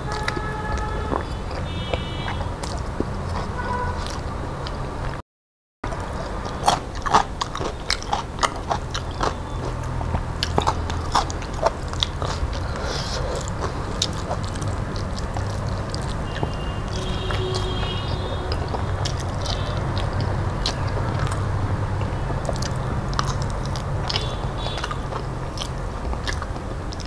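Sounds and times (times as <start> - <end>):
wet chewing and lip smacks: 0.0 - 5.2, 5.9 - 27.0.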